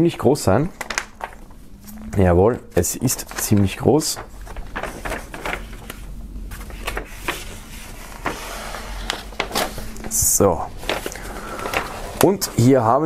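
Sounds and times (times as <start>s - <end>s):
paper rustling and crinkling: 0.6s - 12.9s.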